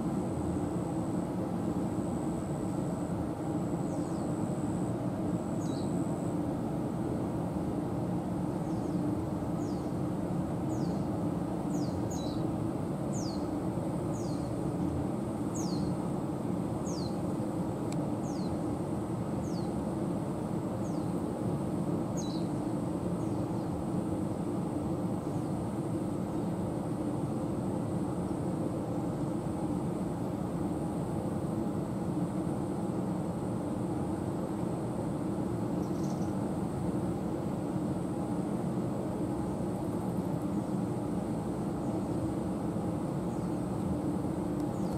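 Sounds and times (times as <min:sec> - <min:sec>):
low rumble of city traffic: 0:00.0 - 0:44.9.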